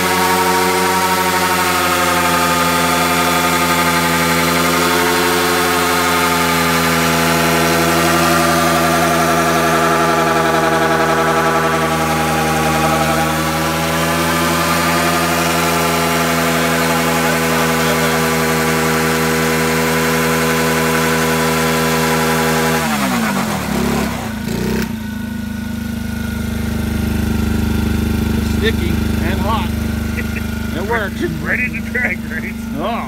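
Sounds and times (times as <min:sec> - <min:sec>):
small engine revving: 0:00.0 - 0:33.0.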